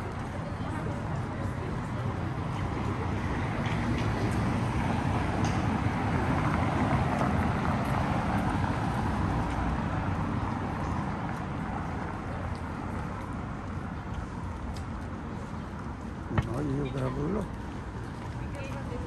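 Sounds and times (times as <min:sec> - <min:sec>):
city street noise: 0:00.0 - 0:19.0.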